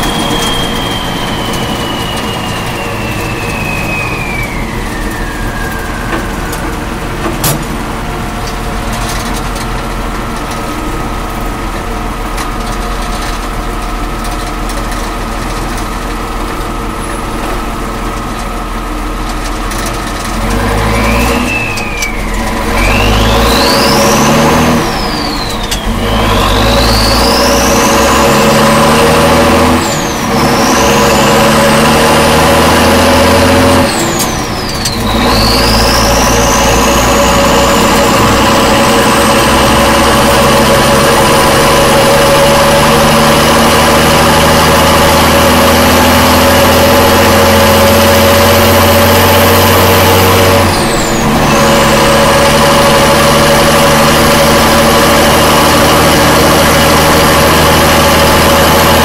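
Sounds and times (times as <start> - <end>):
high engine whine: 0.0 - 59.0
truck engine pulling through gears: 0.0 - 59.0.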